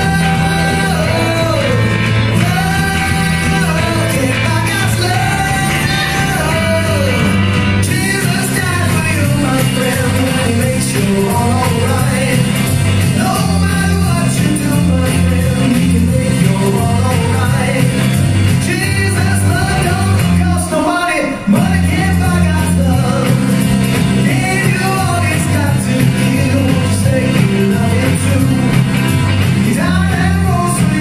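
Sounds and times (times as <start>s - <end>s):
song with sung vocals: 0.0s - 31.0s
steady bass line: 0.0s - 31.0s.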